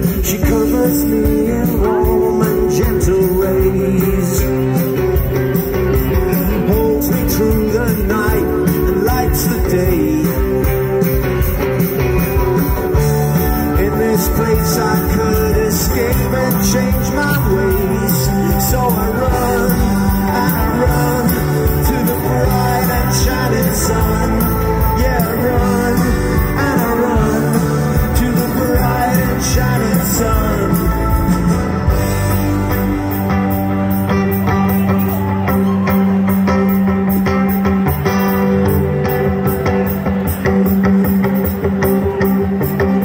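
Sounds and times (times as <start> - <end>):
bass guitar: 0.0 - 43.0
drums: 0.0 - 43.0
electric guitars: 0.0 - 43.0
live rock band playing: 0.0 - 43.0.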